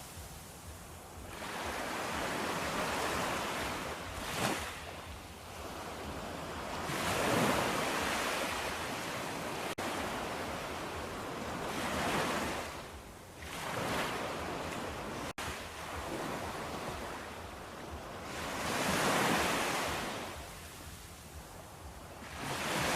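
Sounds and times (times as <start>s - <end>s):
ocean waves washing in: 0.0s - 22.9s.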